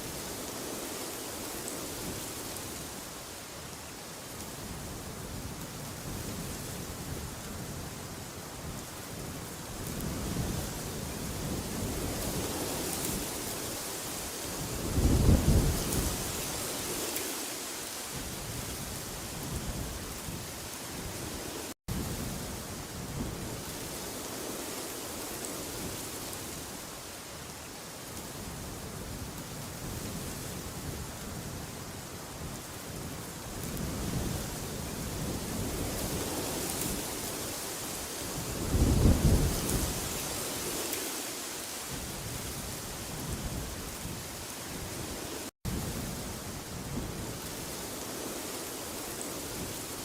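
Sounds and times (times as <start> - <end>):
rushing wind: 0.0 - 50.0.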